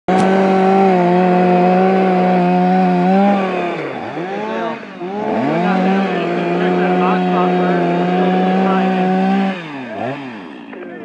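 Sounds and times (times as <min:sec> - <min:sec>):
chainsaw running at high revs: 0:00.1 - 0:11.0.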